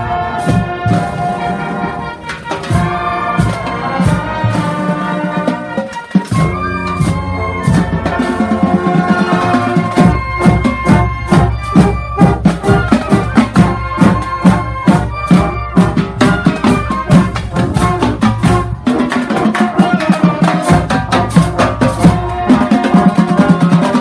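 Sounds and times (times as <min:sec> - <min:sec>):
drums beating: 0:00.0 - 0:24.0
marching band playing: 0:00.0 - 0:24.0.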